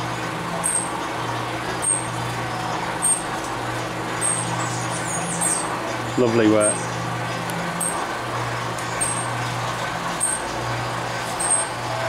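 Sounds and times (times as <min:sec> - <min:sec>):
workshop machinery hum: 0:00.0 - 0:12.0.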